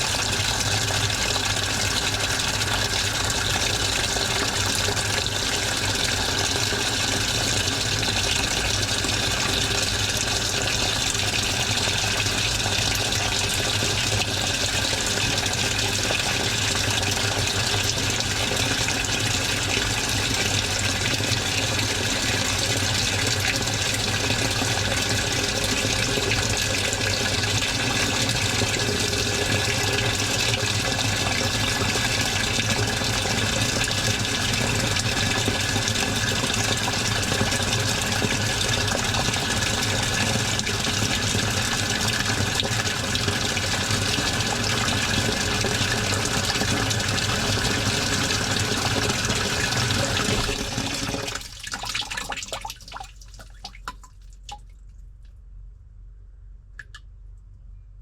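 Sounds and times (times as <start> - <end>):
washing machine running: 0.0 - 55.3.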